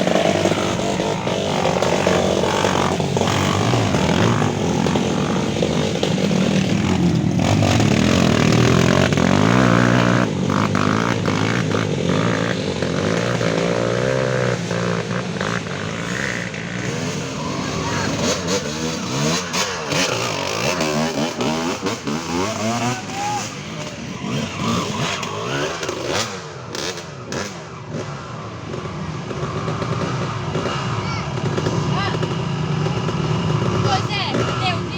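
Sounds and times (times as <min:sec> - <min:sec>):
motorcycle engines revving: 0:00.0 - 0:34.9.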